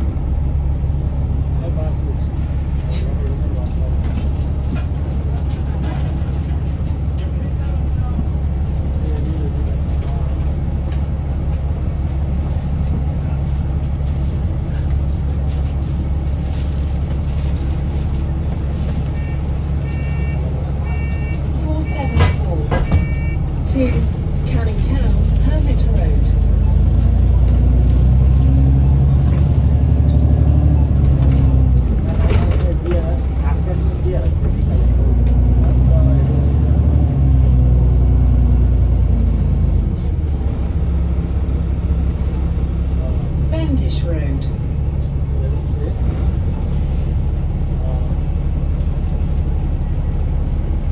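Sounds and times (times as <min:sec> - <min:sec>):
bus engine droning: 0:00.0 - 0:50.9.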